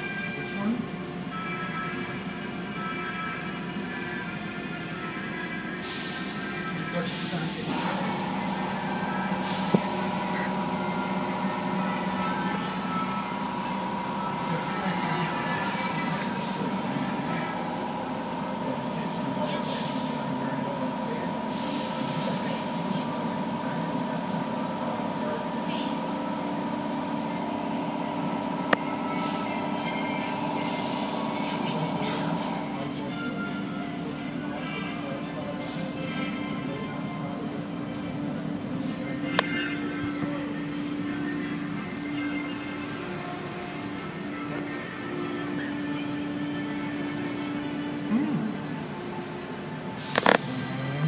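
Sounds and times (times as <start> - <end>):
car wash machinery hum: 0.0 - 51.0.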